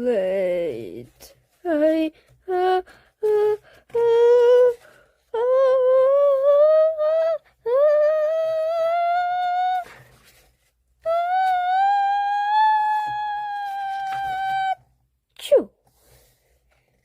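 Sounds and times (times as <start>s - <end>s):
high voice holding vocal tones: 0.0s - 10.0s, 11.0s - 14.8s.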